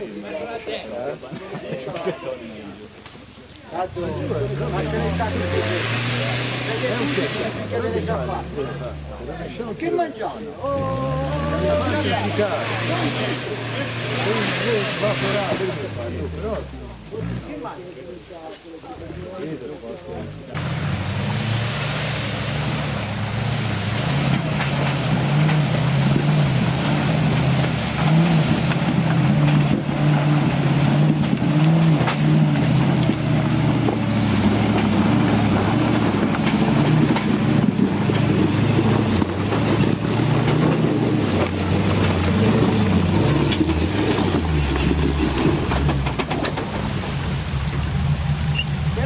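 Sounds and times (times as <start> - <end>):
engine running under load: 3.8 - 9.7, 10.6 - 17.9, 18.9 - 49.0.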